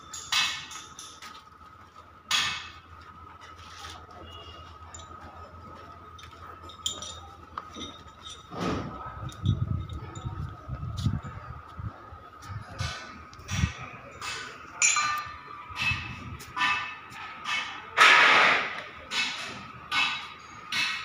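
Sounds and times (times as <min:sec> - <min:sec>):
metal clanks and clinks: 0:00.0 - 0:21.0.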